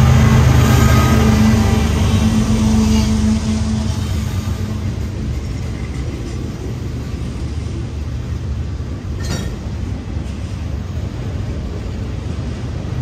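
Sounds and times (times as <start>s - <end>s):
diesel locomotive hum: 0.0s - 13.0s
steel wheels rumbling on rails: 0.0s - 13.0s.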